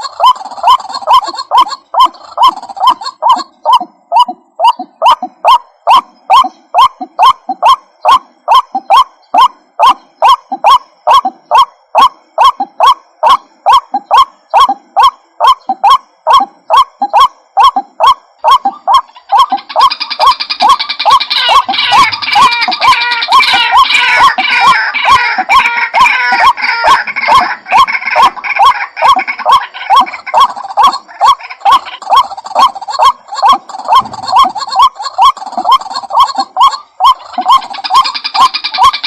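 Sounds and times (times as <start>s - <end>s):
waterhen harsh calls: 0.0s - 39.0s.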